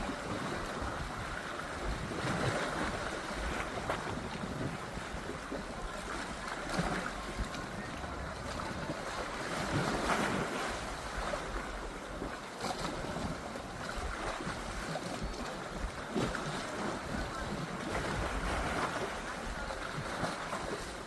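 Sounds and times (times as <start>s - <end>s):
water rushing and splashing: 0.0s - 21.0s
wind buffeting microphone: 0.0s - 21.0s.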